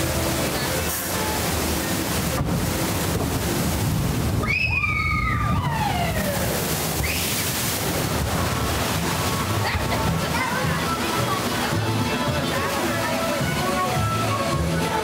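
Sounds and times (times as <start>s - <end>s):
water sloshing and rushing: 0.0s - 15.0s.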